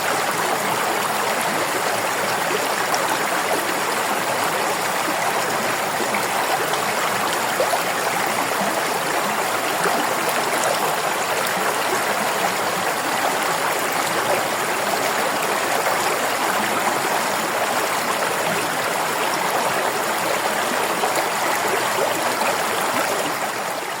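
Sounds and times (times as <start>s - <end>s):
river water flowing over rocks: 0.0s - 24.0s.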